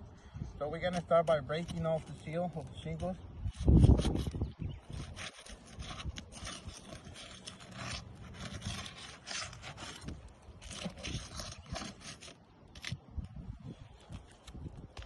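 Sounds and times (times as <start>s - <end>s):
tool scraping under roof shingles: 0.8s - 13.0s.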